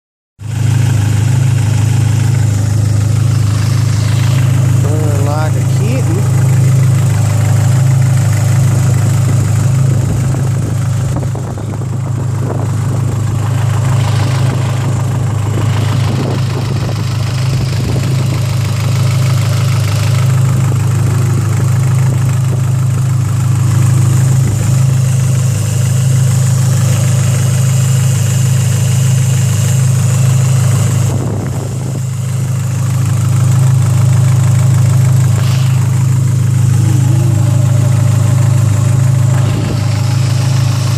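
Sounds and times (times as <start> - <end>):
car engine idling: 0.4 - 40.9.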